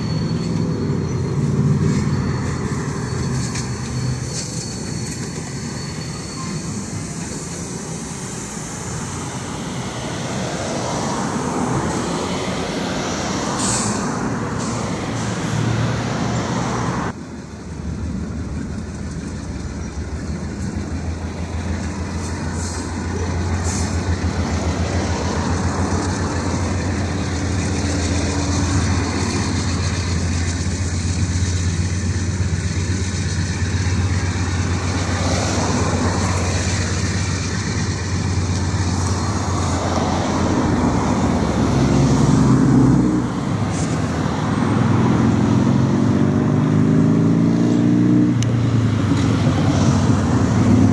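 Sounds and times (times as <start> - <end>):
diesel locomotive engine drone: 0.0 - 50.9.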